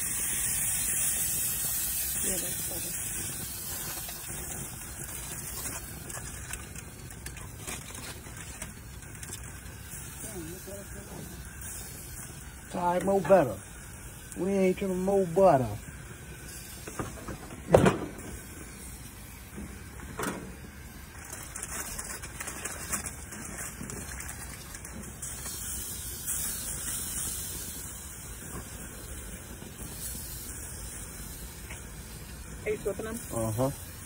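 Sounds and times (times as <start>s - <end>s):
steak sizzling on grill: 0.0s - 34.0s.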